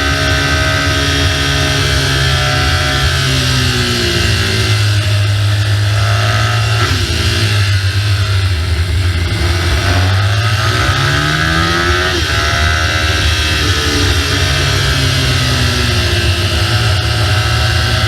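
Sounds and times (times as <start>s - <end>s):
motorcycle engine on road: 0.0s - 18.0s.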